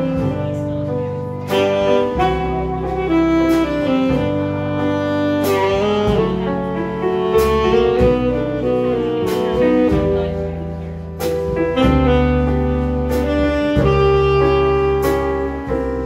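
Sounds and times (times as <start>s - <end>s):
electric bass guitar: 0.0s - 16.0s
saxophone jazz melody: 0.0s - 16.0s.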